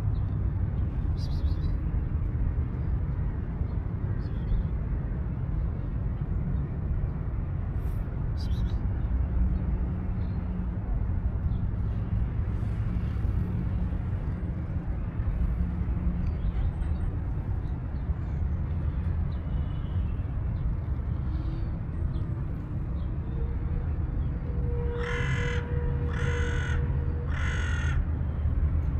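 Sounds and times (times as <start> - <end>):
low outdoor rumble: 0.0 - 28.9.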